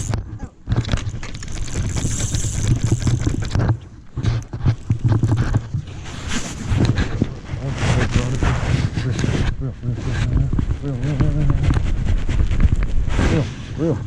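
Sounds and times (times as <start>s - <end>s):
rustling and scraping: 0.0s - 14.0s
wind buffeting microphone: 0.0s - 14.0s.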